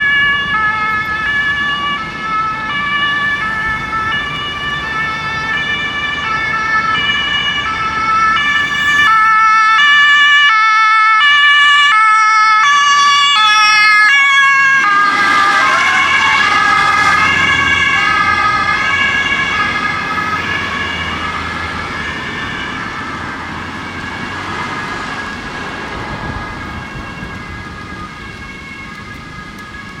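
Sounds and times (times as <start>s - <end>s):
engine and road noise: 0.0s - 30.0s
two-tone police siren: 0.0s - 30.0s.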